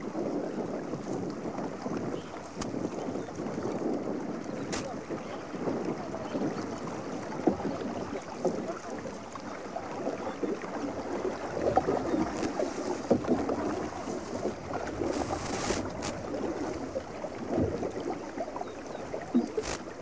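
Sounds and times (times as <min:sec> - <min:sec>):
paddle strokes: 0:00.0 - 0:20.0
water splashing around boat: 0:00.0 - 0:20.0.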